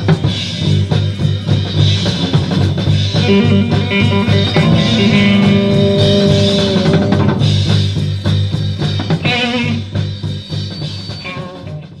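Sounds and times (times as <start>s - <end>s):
guitar and drums music: 0.0s - 12.0s.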